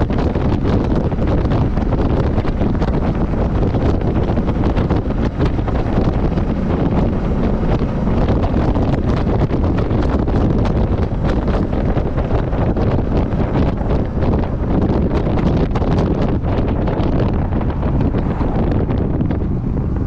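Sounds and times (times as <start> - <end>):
motorcycle engine: 0.0 - 20.0
road noise: 0.0 - 20.0
wind rush on microphone: 0.0 - 20.0.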